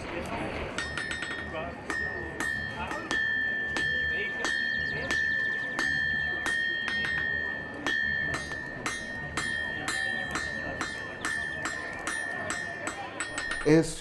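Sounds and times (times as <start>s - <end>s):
anvil ringing: 0.7s - 14.0s
hammer striking iron on anvil: 0.7s - 14.0s.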